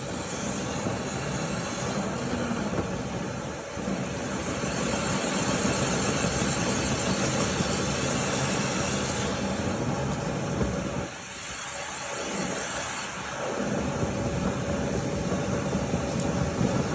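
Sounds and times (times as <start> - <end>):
air rushing with strong hiss: 0.0 - 16.9.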